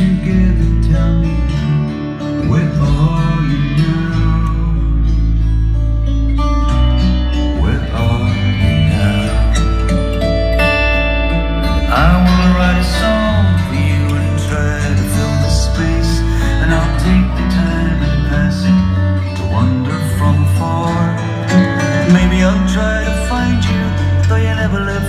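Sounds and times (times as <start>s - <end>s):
guitar over bass: 0.0s - 25.0s
song through speakers: 0.0s - 25.0s.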